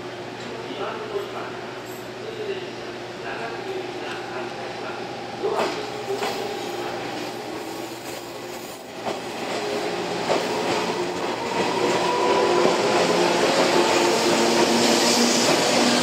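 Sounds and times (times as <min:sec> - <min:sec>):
train running gear whine: 0:02.8 - 0:16.0.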